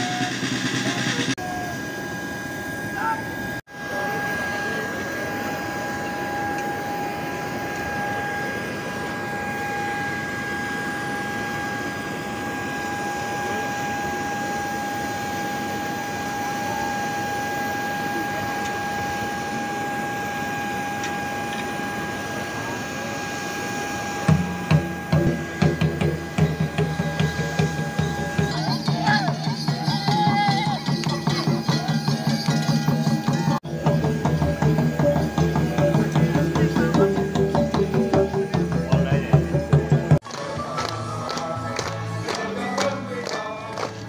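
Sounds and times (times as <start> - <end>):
loud pulsing sound: 0.0 - 40.2
machinery whine of two tones: 0.0 - 42.2.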